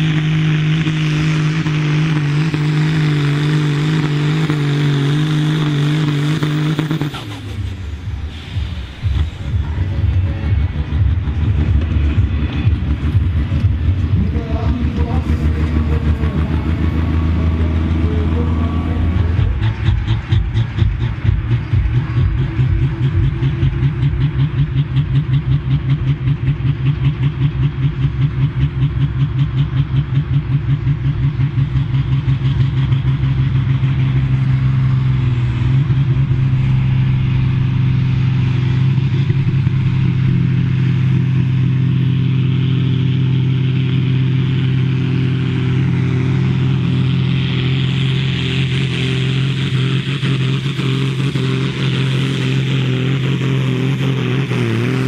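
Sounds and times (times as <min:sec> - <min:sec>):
diesel tractor engine revving: 0:00.0 - 0:55.0.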